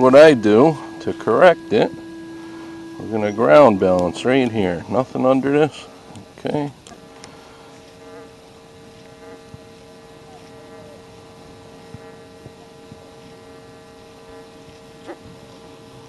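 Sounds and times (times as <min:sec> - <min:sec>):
metal detector buzzing tone: 0:00.0 - 0:16.0.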